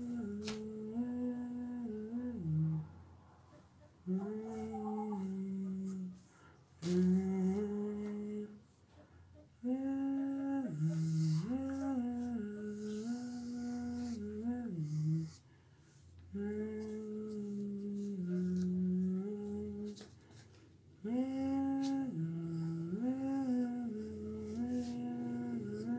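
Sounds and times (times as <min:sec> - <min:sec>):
person humming: 0:00.0 - 0:02.9, 0:04.1 - 0:06.2, 0:06.8 - 0:08.7, 0:09.6 - 0:15.4, 0:16.3 - 0:20.0, 0:21.0 - 0:25.9.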